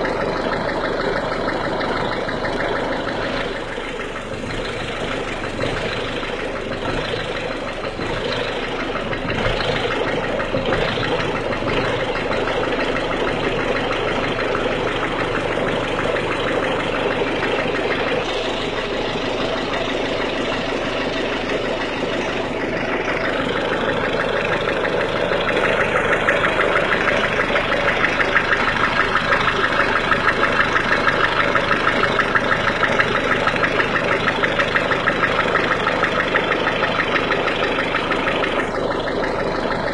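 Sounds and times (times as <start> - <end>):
diesel engine idling with clatter: 0.0 - 39.9.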